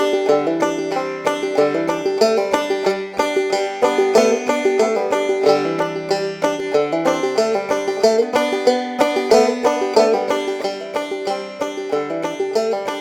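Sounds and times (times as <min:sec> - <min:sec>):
bluegrass music with banjo: 0:00.0 - 0:13.0.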